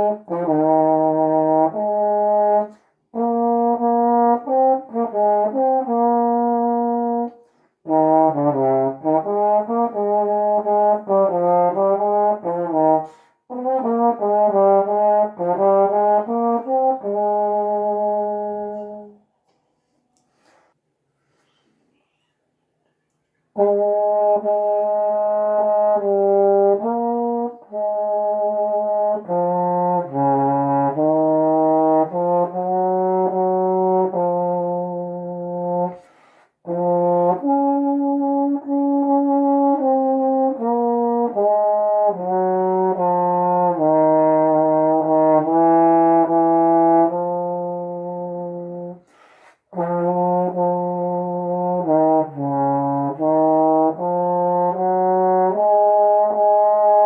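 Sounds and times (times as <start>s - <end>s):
solo trombone playing hymn melody: 0.0s - 19.2s, 23.5s - 57.0s.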